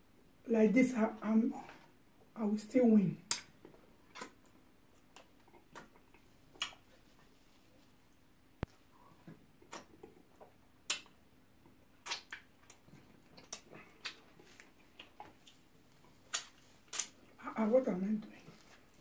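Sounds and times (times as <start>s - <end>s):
soft wet eating sounds: 3.2s - 17.6s, 18.2s - 19.0s.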